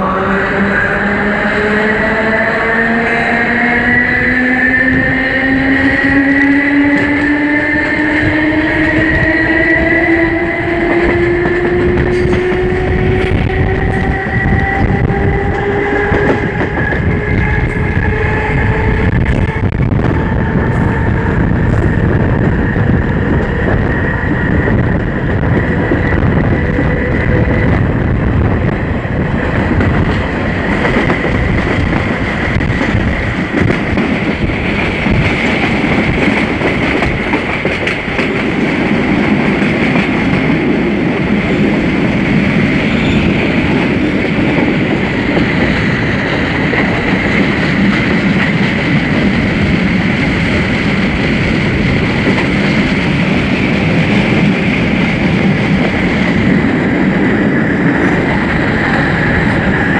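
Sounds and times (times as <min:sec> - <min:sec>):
high whine of train: 0:00.0 - 0:59.9
train rumbling on rails: 0:00.0 - 0:59.9.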